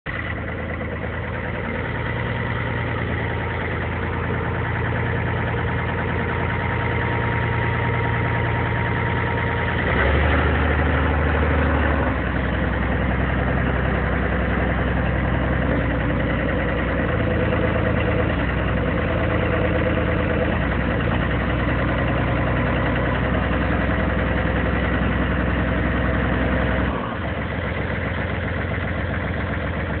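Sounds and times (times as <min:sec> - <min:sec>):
dozer diesel engine idling: 0:00.1 - 0:30.0.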